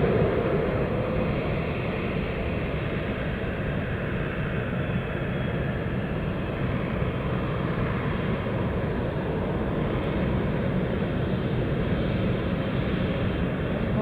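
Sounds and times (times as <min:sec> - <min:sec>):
jet airliner engine rumble: 0:00.0 - 0:14.0.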